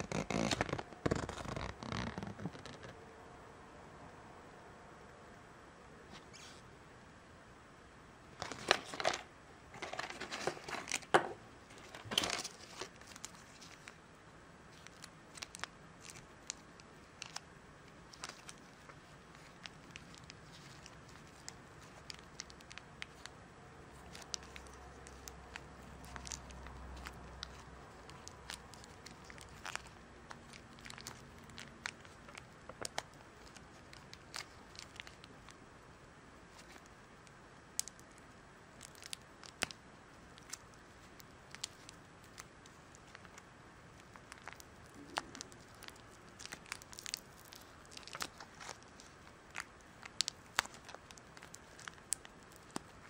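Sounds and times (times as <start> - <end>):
plastic wrapper crinkling: 0.0 - 3.0, 8.4 - 14.0, 14.6 - 35.6, 36.4 - 53.0.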